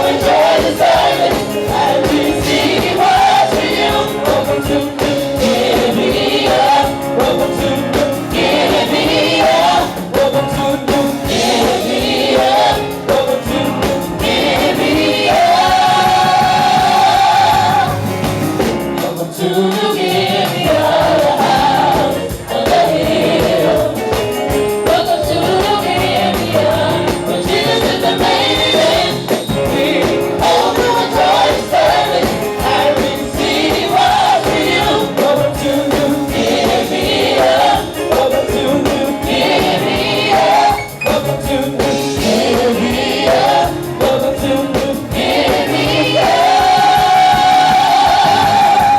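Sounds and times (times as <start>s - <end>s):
gospel choir singing: 0.0s - 48.9s
instrumental accompaniment: 0.0s - 48.9s.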